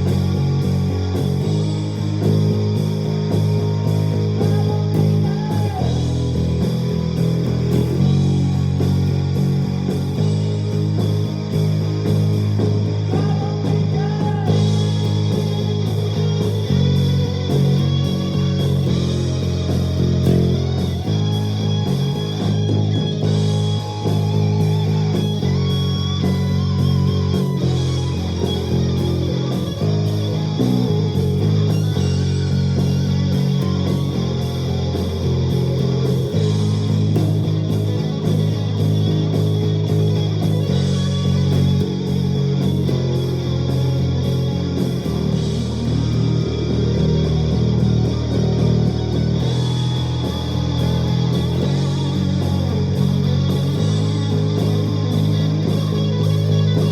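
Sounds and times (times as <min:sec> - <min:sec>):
plucked electric bass: 0:00.0 - 0:56.9
rock backing track with drums: 0:00.0 - 0:56.9.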